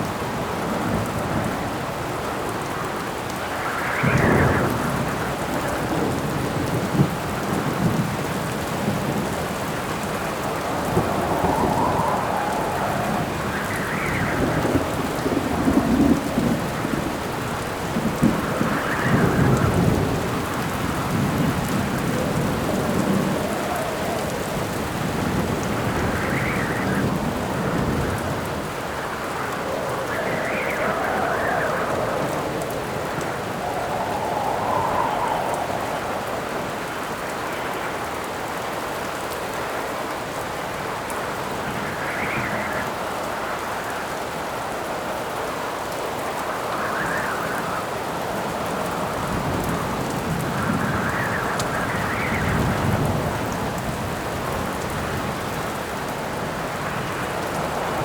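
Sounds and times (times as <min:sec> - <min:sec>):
steady rain: 0:00.0 - 0:58.0
wind howling in gusts: 0:00.0 - 0:58.0
thunder rumbling: 0:00.1 - 0:38.2, 0:46.0 - 0:58.0.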